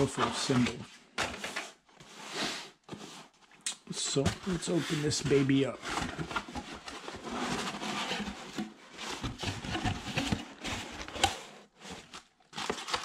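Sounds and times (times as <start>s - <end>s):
cardboard flaps scraping and rustling: 0.0s - 3.4s, 4.0s - 13.0s.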